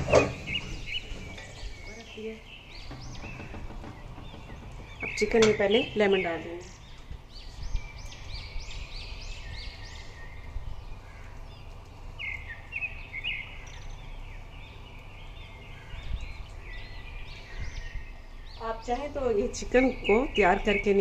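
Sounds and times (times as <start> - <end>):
low background rumble: 0.0 - 20.7
birds chirping: 0.0 - 21.0.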